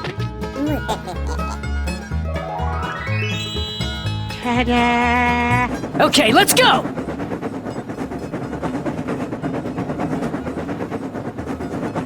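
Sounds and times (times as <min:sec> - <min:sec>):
train rumbling: 0:00.5 - 0:12.0.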